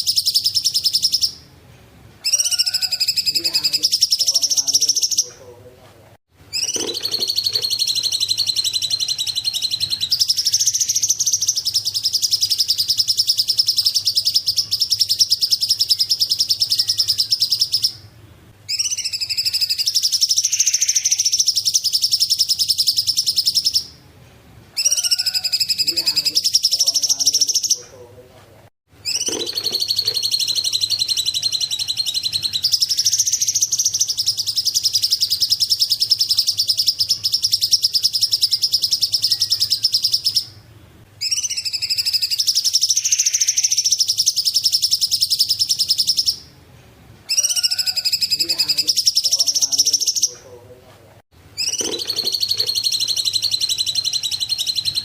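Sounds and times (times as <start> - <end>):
bird singing high rapid trills: 0.0 - 1.5, 2.2 - 5.4, 6.5 - 18.1, 18.7 - 24.0, 24.8 - 27.8, 29.0 - 40.6, 41.2 - 46.5, 47.3 - 50.4, 51.6 - 55.0.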